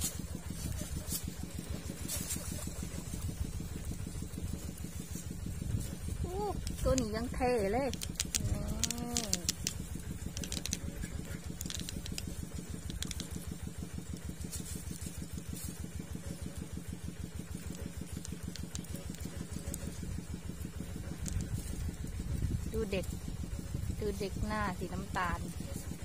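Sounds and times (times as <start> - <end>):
small engine idling: 0.0 - 26.0.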